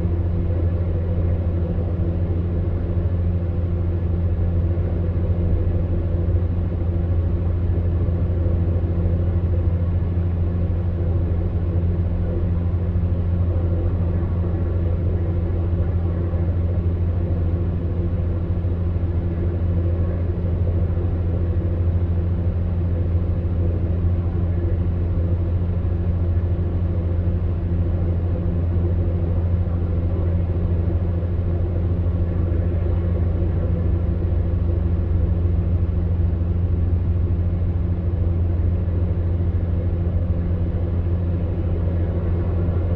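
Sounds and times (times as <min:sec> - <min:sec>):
fan air rushing: 0:00.0 - 0:42.9
fan heater humming: 0:00.0 - 0:42.9.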